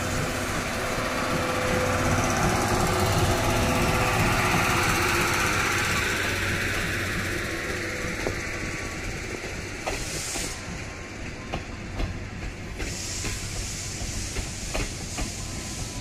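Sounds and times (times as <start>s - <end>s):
steam hiss: 0.0s - 16.0s
train coaches rumbling past: 0.0s - 16.0s.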